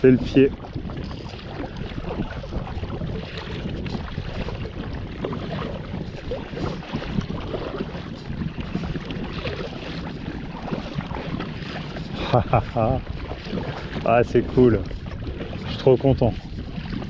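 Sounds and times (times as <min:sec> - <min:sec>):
paddle blades dipping in water: 0:00.0 - 0:17.0
water splashing and lapping: 0:00.0 - 0:17.0
wind on microphone: 0:00.0 - 0:17.0.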